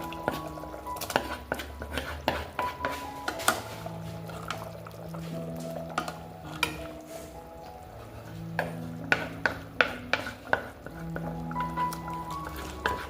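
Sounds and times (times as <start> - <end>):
slow melodic background music: 0.0 - 13.0
spoon stirring in pot: 0.0 - 13.0.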